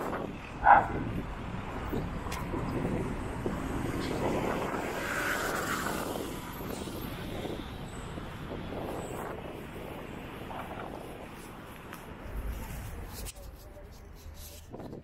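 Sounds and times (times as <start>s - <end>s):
hum of traffic: 0.0s - 15.0s.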